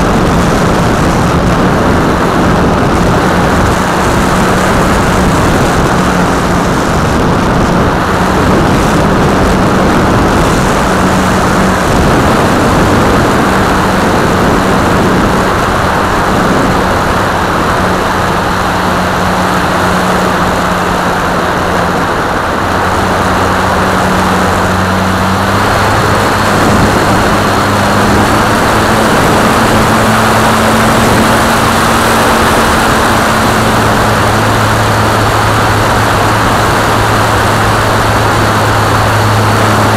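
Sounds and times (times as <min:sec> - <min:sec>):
electric motor and propeller drone: 0:00.0 - 0:39.9
wind rushing on microphone: 0:00.0 - 0:39.9.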